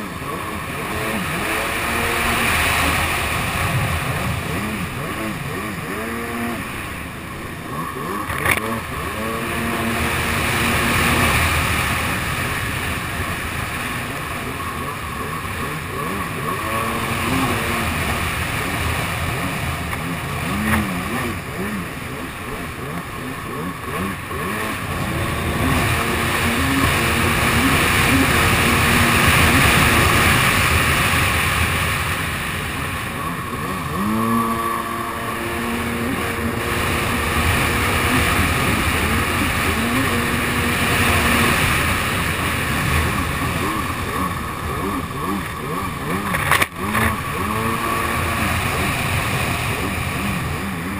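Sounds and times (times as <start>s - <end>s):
jet ski engine revving: 0.0s - 50.9s
water spray and wind rush: 0.0s - 50.9s.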